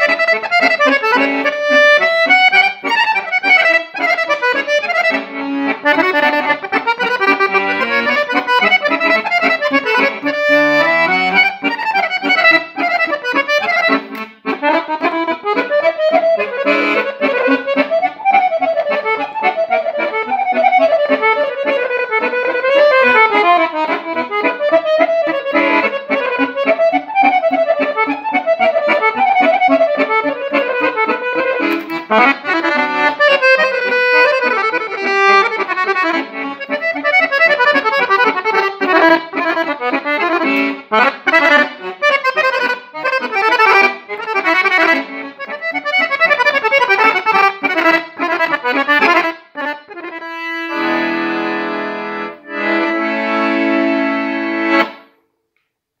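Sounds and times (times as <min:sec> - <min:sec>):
accordion playing dance tune: 0:00.0 - 0:55.2.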